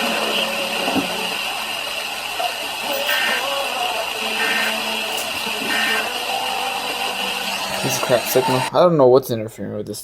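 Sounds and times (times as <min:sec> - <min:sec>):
faint interference tones: 0:00.0 - 0:08.7
radio static hiss: 0:00.0 - 0:08.7.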